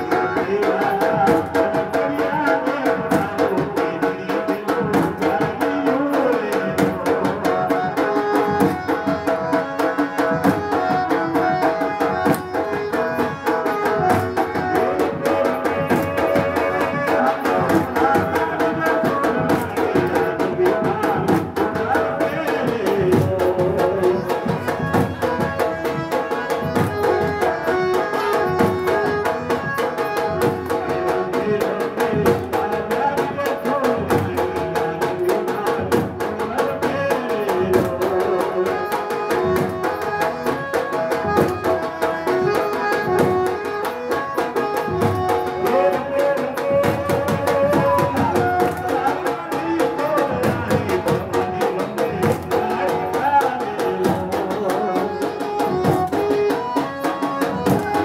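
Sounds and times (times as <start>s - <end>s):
barrel drum beat: 0.0s - 58.0s
harmonium melody: 0.0s - 58.0s.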